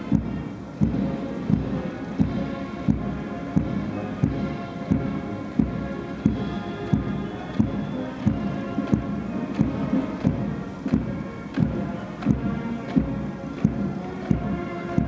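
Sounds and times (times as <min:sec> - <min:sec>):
bass drum beat: 0:00.0 - 0:15.0
military march music: 0:00.0 - 0:15.0.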